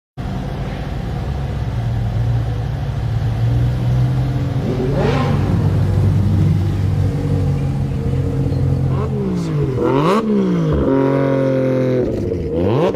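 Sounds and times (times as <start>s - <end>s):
car engine running: 0.2s - 12.9s.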